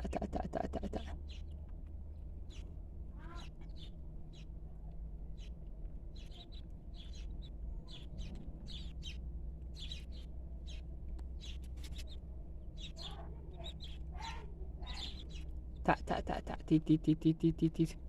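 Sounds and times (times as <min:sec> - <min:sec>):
young chickens peeping: 0:00.0 - 0:04.6, 0:05.3 - 0:18.0
steady low hum: 0:00.0 - 0:18.0.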